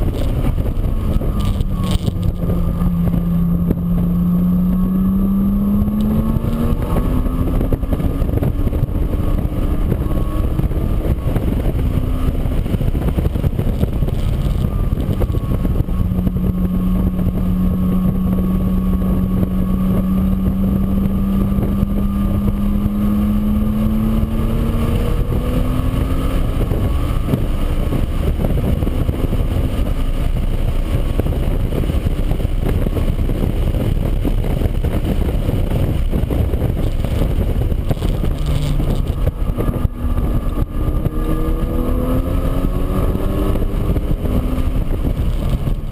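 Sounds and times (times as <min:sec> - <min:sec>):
engine running: 0:00.0 - 0:45.9
strong wind noise: 0:00.0 - 0:45.9.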